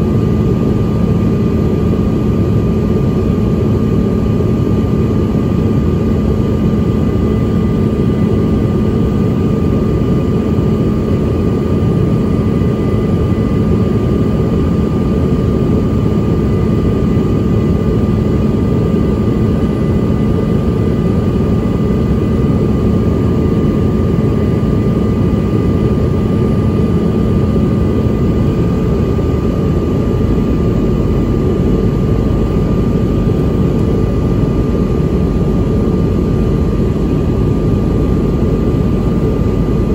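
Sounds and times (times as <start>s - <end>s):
high engine whine: 0.0s - 39.9s
jet cabin air rush and engine noise: 0.0s - 39.9s.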